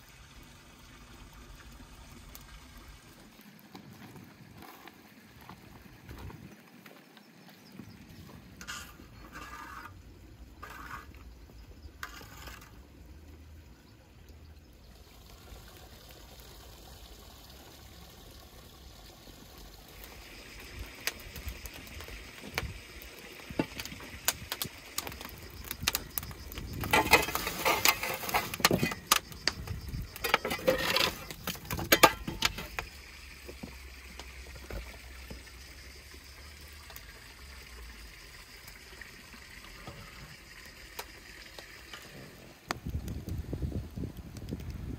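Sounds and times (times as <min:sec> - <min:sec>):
wood fire crackling: 0:00.2 - 0:44.9.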